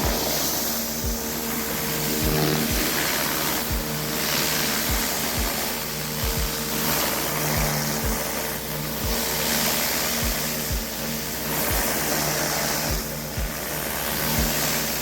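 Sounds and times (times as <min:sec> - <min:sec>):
pressure washer humming: 0:00.0 - 0:15.0
water spray hissing on concrete: 0:00.0 - 0:15.0.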